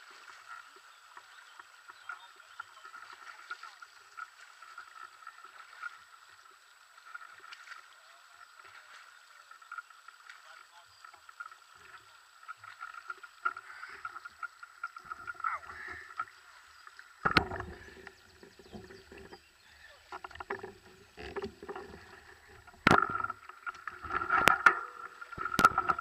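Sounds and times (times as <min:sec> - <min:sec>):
creek water burbling over stones: 0:00.0 - 0:26.0.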